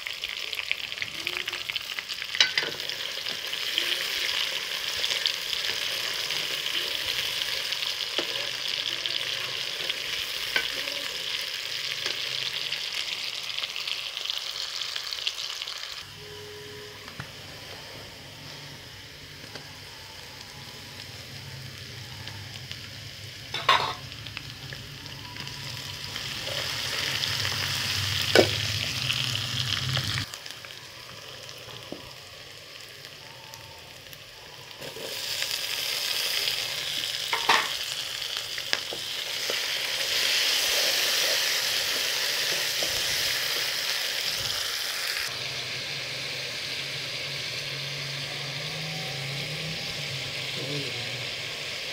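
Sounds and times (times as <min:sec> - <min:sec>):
onions sizzling in hot oil: 0:00.0 - 0:51.9.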